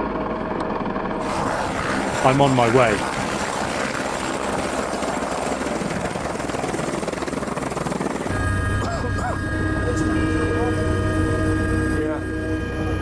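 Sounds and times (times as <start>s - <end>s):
helicopter rotor chop: 0.1s - 13.0s.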